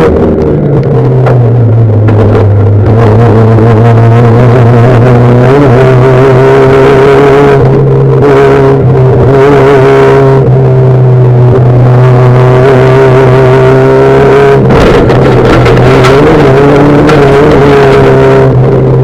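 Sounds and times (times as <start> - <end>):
car engine revving high: 0.0 - 19.0.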